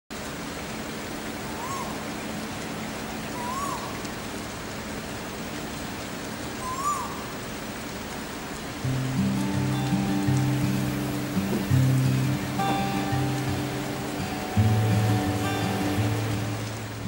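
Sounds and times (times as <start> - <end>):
steady rain-like hiss: 0.1 - 17.0.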